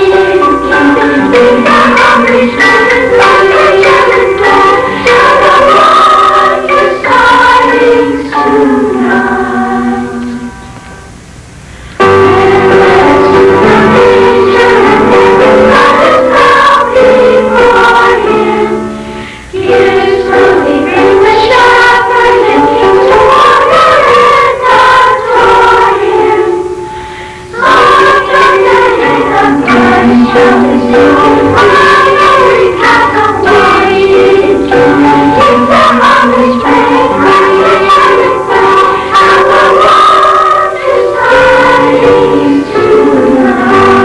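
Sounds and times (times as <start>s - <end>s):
children's choir singing: 0.0s - 11.2s, 12.0s - 44.0s.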